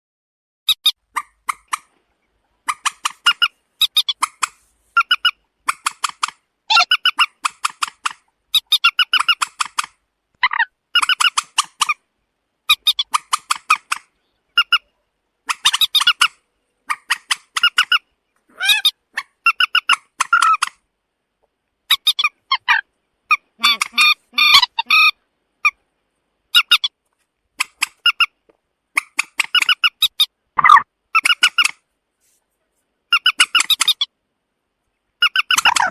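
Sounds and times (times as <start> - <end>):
moorhen calling: 0.7 - 20.9, 21.8 - 31.8, 33.0 - 34.2, 34.8 - 35.9.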